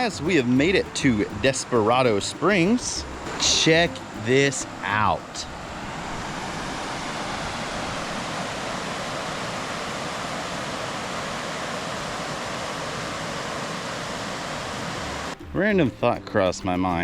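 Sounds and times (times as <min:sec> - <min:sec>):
water flowing at a spring: 0:00.0 - 0:15.4.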